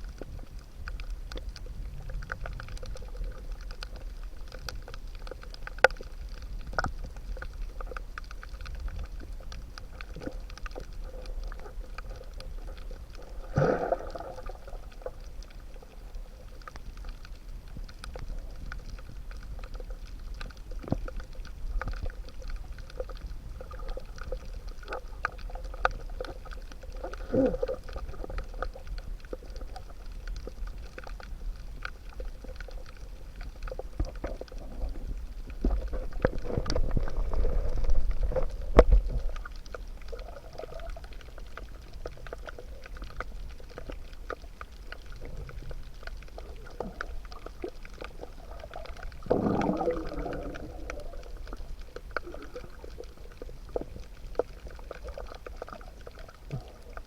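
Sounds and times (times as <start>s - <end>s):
bubbling and gurgling: 0.0s - 57.0s
underwater clicks crackling: 0.0s - 57.0s
underwater low rumble: 0.0s - 57.0s.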